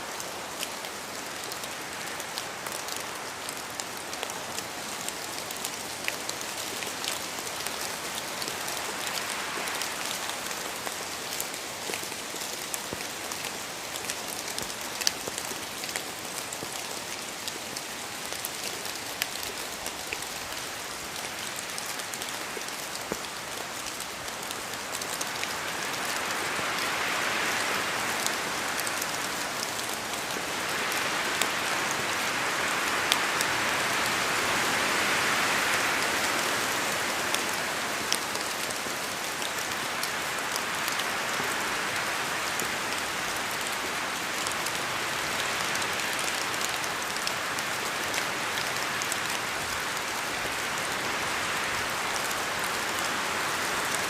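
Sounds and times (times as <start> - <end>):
steady rain hissing: 0.0 - 54.0
raindrops ticking on a surface: 0.1 - 34.4, 35.3 - 54.0.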